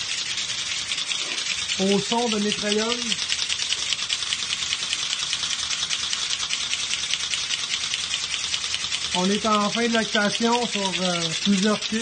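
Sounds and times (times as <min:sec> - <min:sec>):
milking machine pulsators clicking: 0:00.0 - 0:12.0.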